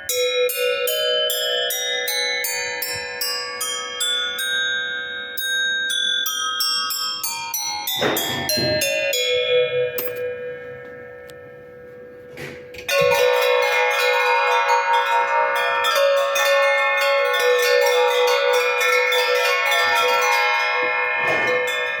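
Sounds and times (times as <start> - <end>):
metal bell ringing: 0.0 - 11.8, 12.6 - 22.0.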